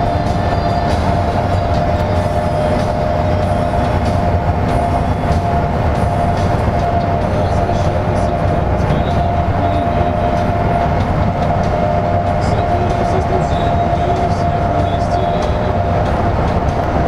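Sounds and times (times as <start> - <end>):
bus engine and tyre drone: 0.0 - 17.0
constant whine: 0.0 - 17.0.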